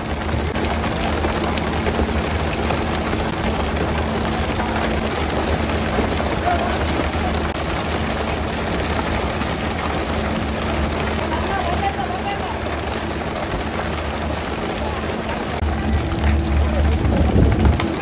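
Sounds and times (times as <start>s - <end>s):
boat engine humming: 0.0s - 18.0s
water splashing against hull: 0.0s - 18.0s.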